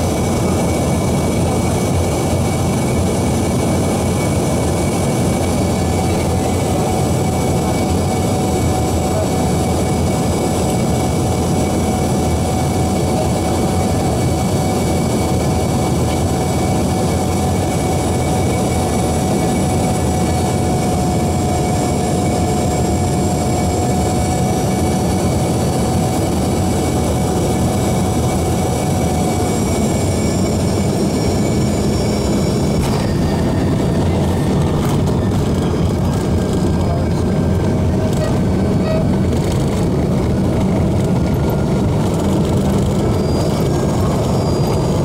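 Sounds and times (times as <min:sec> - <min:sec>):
jet engine whine: 0:00.0 - 0:45.0.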